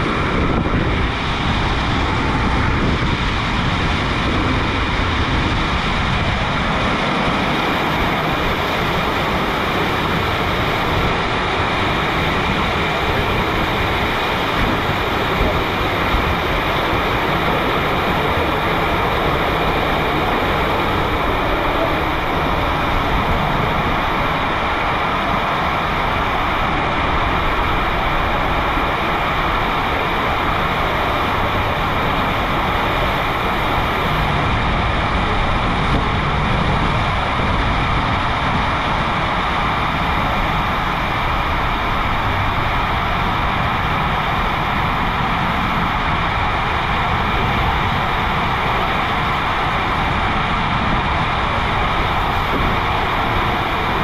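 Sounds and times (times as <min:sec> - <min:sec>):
water rushing in slide tube: 0:00.0 - 0:54.0.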